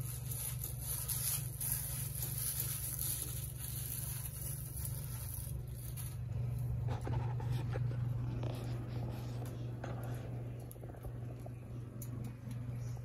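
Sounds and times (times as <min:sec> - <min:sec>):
faint rustling and handling: 0:00.0 - 0:13.0
steady low hum: 0:00.0 - 0:13.0.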